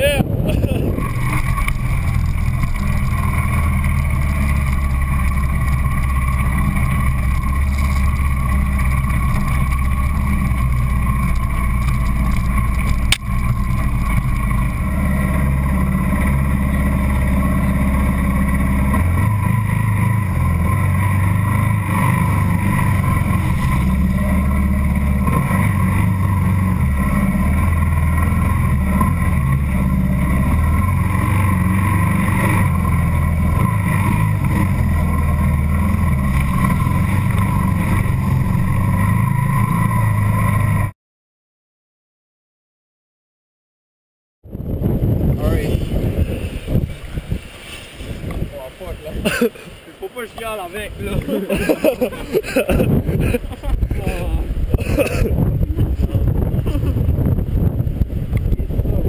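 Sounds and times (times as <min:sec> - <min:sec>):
motorcycle engine revving: 0:00.0 - 0:40.9, 0:50.1 - 0:59.0.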